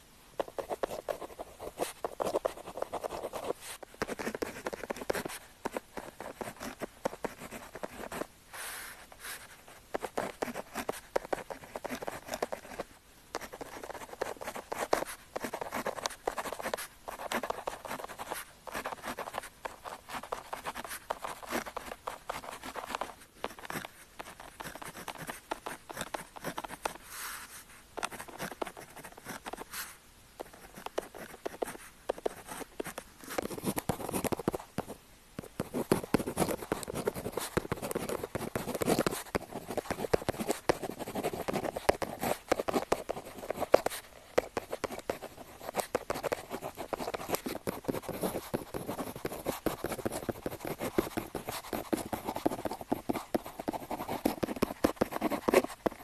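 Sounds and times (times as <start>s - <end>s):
pen scratching on paper: 0.4s - 8.3s, 9.3s - 56.0s.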